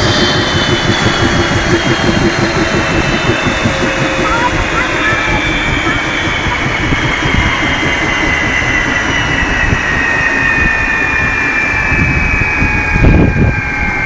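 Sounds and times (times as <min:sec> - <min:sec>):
helicopter rotor rumble: 0:00.0 - 0:14.0
helicopter turbine whine: 0:00.0 - 0:14.0.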